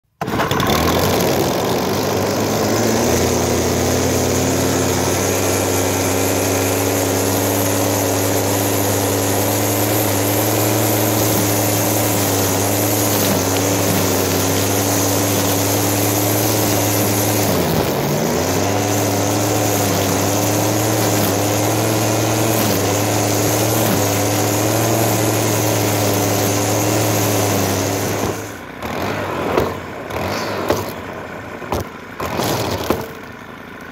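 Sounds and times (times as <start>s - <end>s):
string trimmer engine running: 0.2s - 31.1s, 31.7s - 33.9s.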